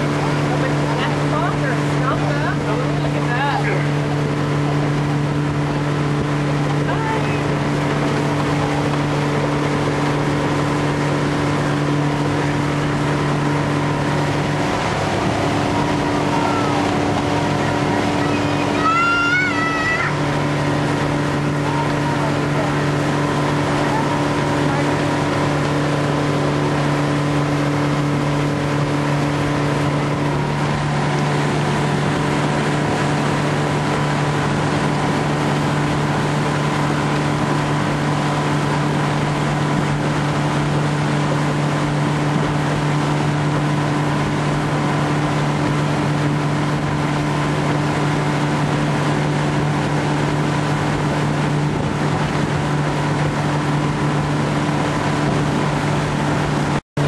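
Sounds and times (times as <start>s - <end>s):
wind and water hiss: 0.0s - 56.8s
outboard motor droning: 0.0s - 57.0s.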